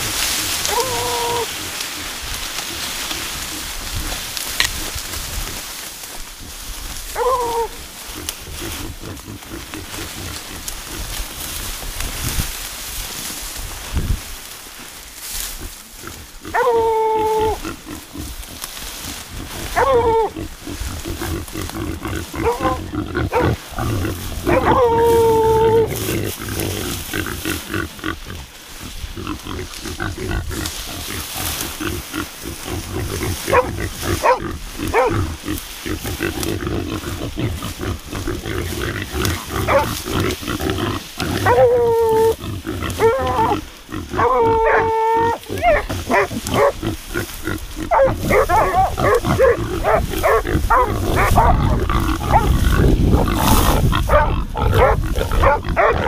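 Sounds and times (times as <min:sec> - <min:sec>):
high-pitched boar calls: 0:00.0 - 0:04.1, 0:07.1 - 0:11.1, 0:15.4 - 0:56.0
wild boar grunting: 0:00.0 - 0:12.6, 0:15.2 - 0:56.0.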